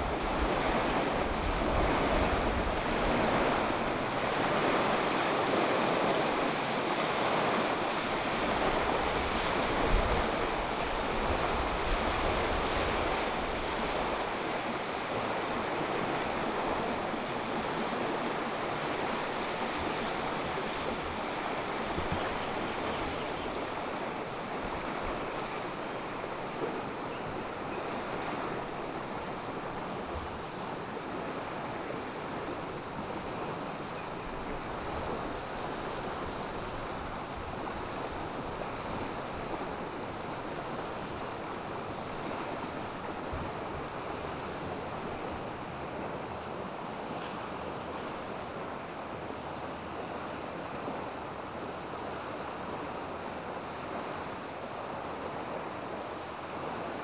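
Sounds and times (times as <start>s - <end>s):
small waves on sandy shore: 0.0s - 57.0s
wind gusts on microphone: 0.0s - 57.0s.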